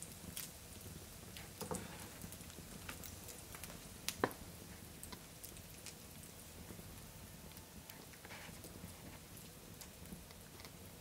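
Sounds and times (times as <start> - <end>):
hot fat crackling: 0.0 - 11.0.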